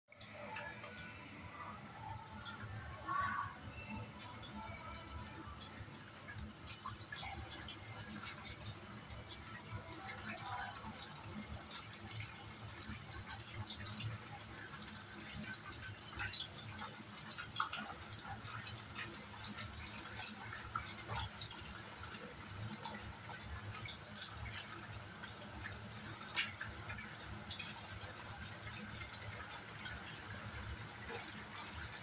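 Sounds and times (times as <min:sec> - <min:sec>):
potatoes sizzling in hot oil: 0:05.2 - 0:32.0.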